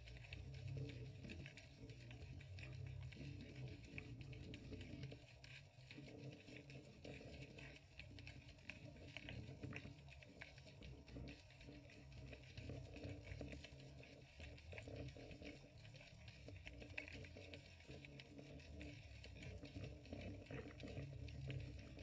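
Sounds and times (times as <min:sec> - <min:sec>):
muffled underwater rumble: 0:00.0 - 0:22.0.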